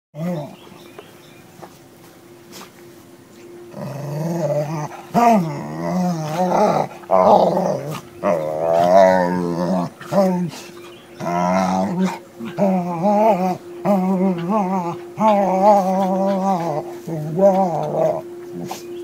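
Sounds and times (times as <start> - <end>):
dogs play-growling: 0.2 - 1.0, 3.7 - 19.0.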